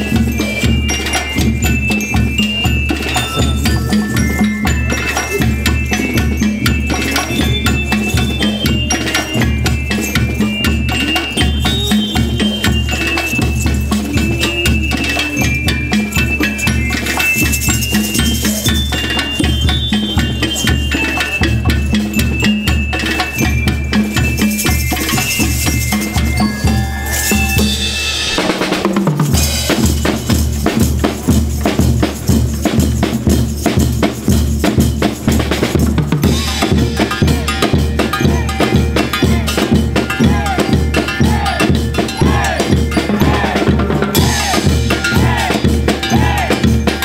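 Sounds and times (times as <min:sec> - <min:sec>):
bell lyre melody: 0:00.0 - 0:47.0
steady drum beat: 0:00.0 - 0:47.0.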